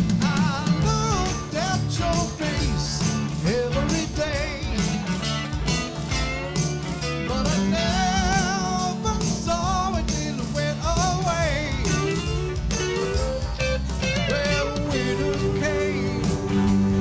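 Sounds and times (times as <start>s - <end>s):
live soft rock band: 0.0s - 17.0s.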